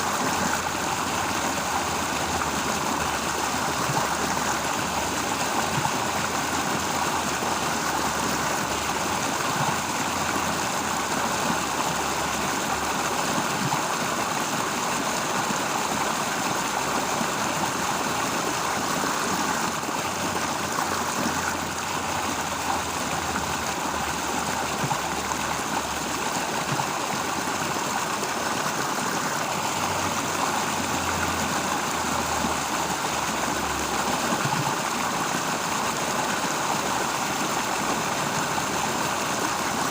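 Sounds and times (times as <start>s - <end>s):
flowing stream rushing: 0.0s - 39.9s.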